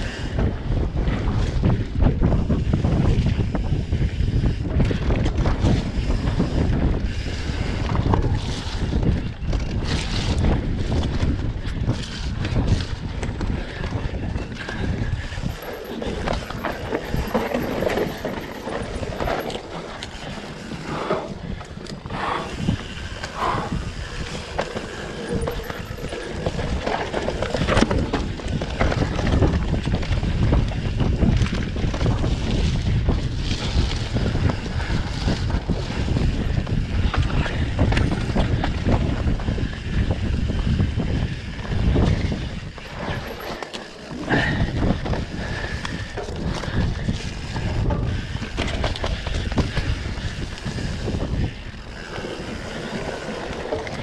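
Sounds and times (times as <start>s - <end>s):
wind buffeting microphone: 0.0s - 54.0s
dirt bike engine running: 0.4s - 54.0s.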